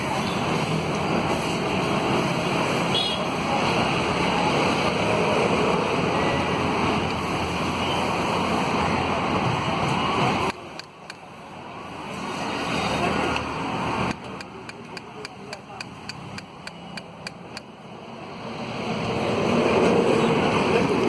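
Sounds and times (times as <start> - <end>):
street traffic roar: 0.0 - 21.0.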